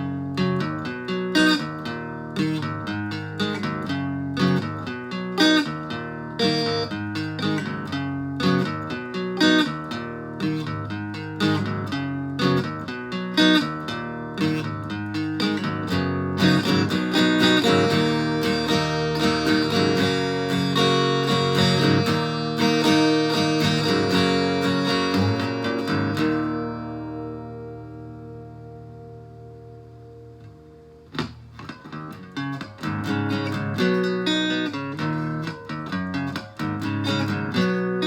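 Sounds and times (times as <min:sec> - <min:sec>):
distorted guitar strumming chords: 0:00.0 - 0:38.0.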